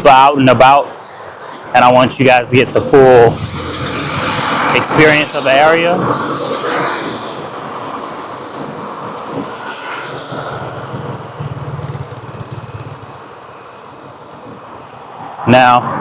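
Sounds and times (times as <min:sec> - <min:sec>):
street traffic passing: 0:00.0 - 0:16.0
vehicle going by: 0:00.8 - 0:16.0.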